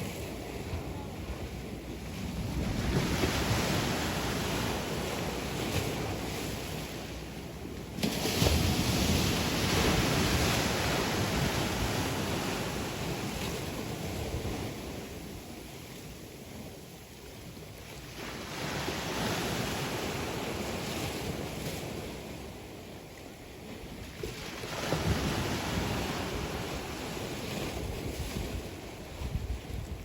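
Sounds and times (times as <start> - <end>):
sea waves surging onto shore: 0.0 - 30.0.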